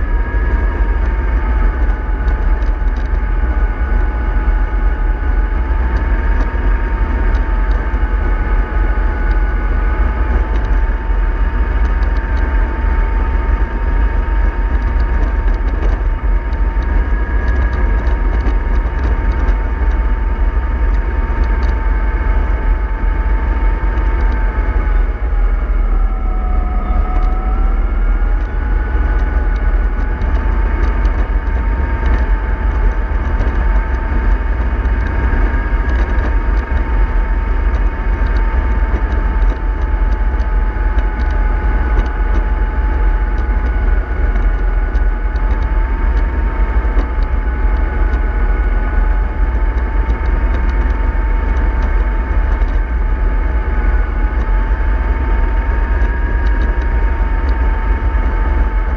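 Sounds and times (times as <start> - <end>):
bus engine whine: 0.0 - 58.9
bus low rumble: 0.0 - 58.9.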